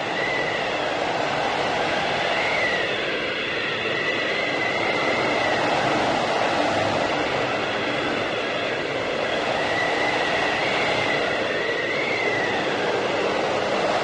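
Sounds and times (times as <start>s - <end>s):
blizzard wind rushing: 0.0s - 14.0s.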